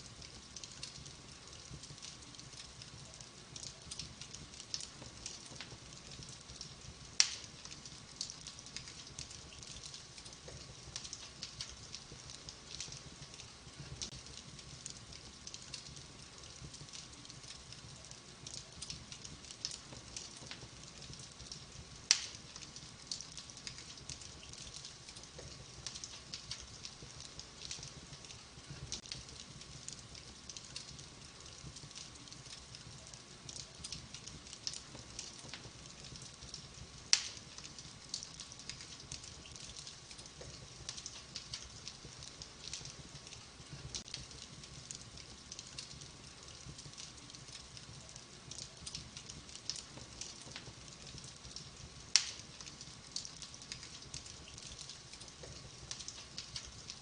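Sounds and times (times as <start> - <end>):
fire crackling in a fireplace: 0.0 - 57.0
loud fire pops: 0.2 - 47.7, 48.5 - 57.0.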